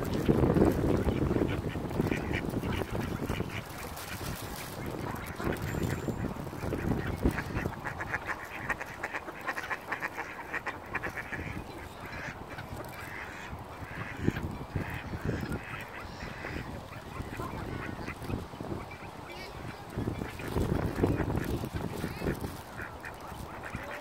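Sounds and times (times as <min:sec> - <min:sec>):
ducks quacking: 0:00.2 - 0:24.0.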